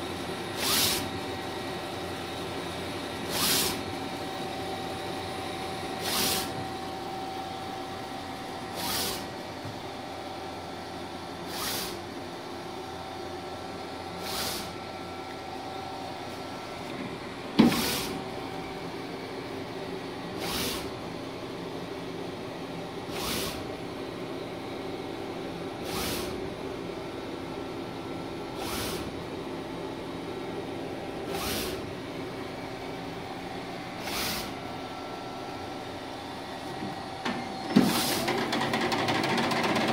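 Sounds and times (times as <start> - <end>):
printer humming: 0.0 - 39.9.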